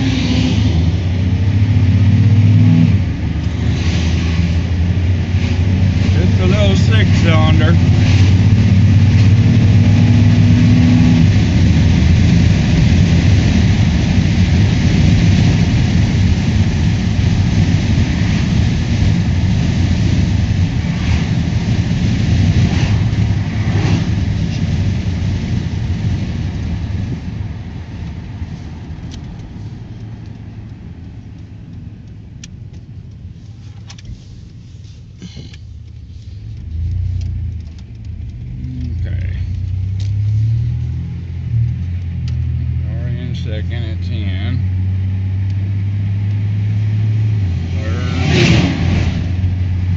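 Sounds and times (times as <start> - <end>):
engine hum: 0.0 - 49.9
road noise: 0.0 - 49.9.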